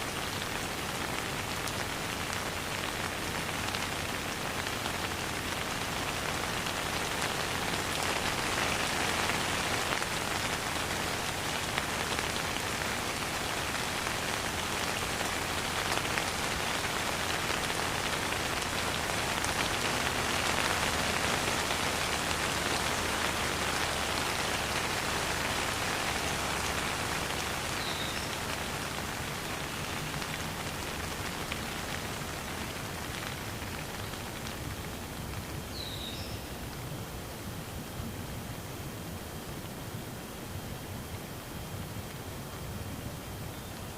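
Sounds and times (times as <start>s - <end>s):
rain pattering: 0.0s - 43.9s.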